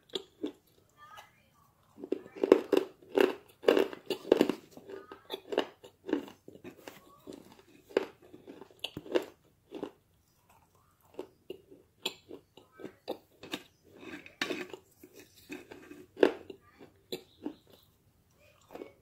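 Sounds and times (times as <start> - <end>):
chewing and crunching clay: 0.0 - 19.0.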